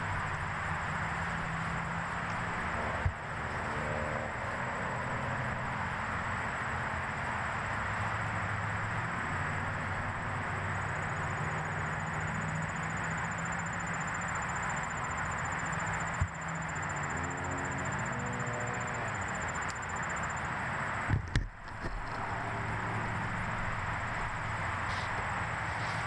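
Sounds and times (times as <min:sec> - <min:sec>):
outdoor rushing noise: 0:00.0 - 0:26.0.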